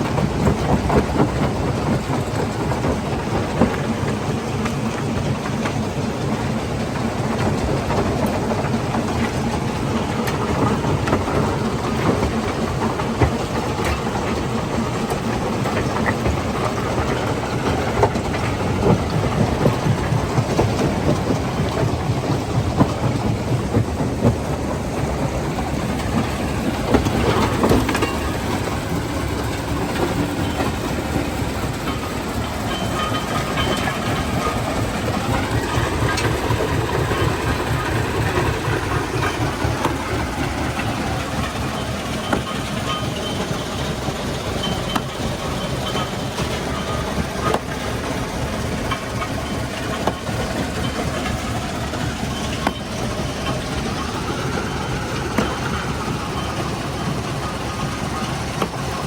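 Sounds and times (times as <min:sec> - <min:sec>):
stone crushing machinery running: 0:00.0 - 0:59.0.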